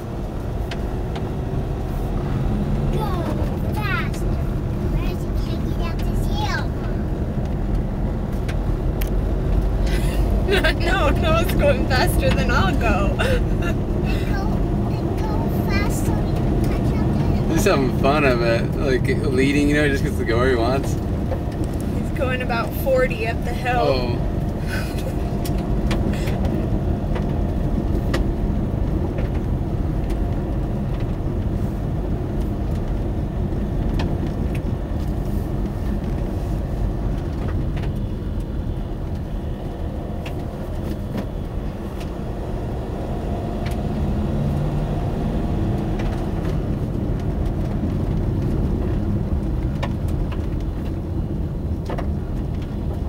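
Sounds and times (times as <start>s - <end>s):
car rumbling on gravel: 0.0s - 53.0s.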